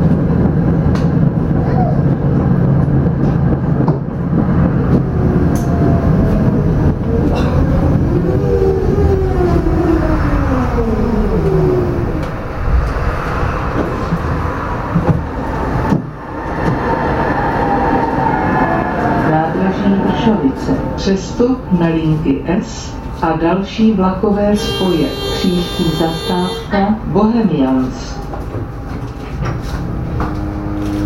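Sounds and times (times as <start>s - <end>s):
tram rolling on rails: 0.0s - 31.0s.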